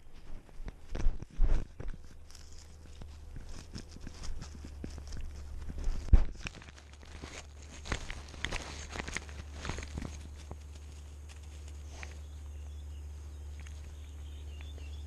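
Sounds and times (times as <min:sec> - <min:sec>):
cat moving through dry grass: 0:00.0 - 0:14.2.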